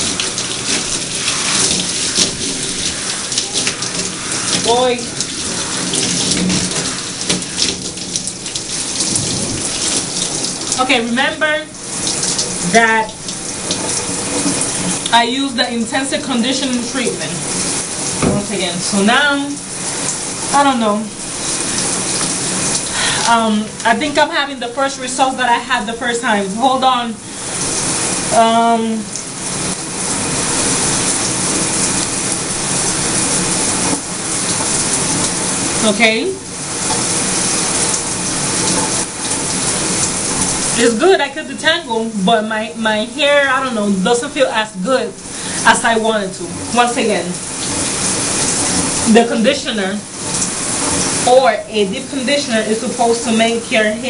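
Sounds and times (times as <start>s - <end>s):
water running onto hair: 0.0s - 54.0s.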